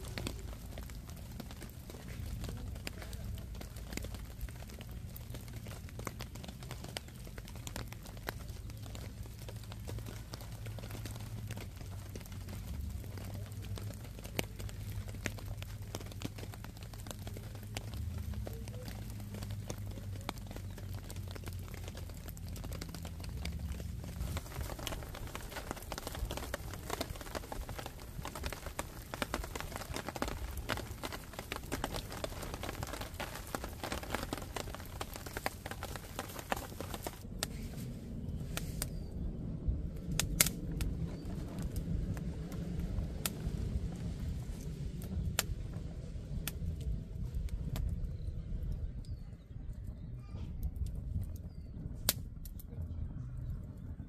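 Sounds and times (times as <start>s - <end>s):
rain pattering on shelter: 0.0s - 54.0s.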